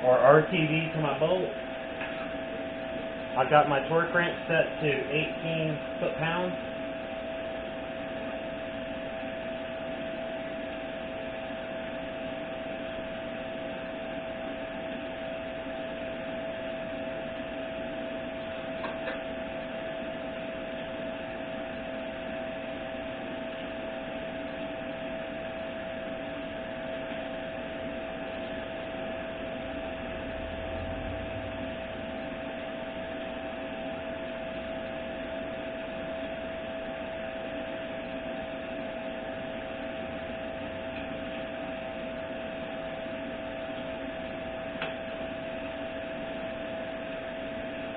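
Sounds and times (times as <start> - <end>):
constant hum: 0.0 - 47.9
fan whirring: 0.0 - 47.9.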